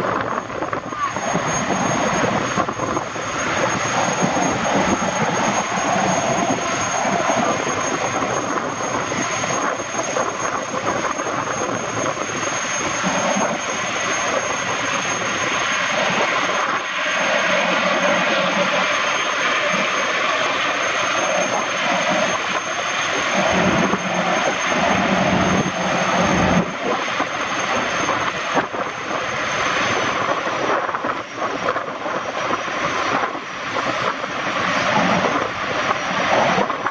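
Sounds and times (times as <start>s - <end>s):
gas turbine whine: 0.0s - 36.9s
waterjets and wake rushing: 0.0s - 36.9s.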